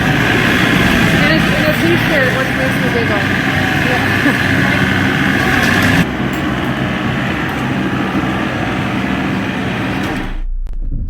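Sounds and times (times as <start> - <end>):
road and wind noise: 0.0 - 10.3
vehicle engine hum: 0.0 - 10.5.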